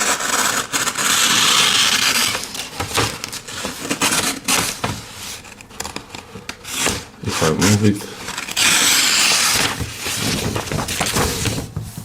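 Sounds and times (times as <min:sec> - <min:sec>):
paper rustling and tearing: 0:00.0 - 0:05.6, 0:06.7 - 0:12.0.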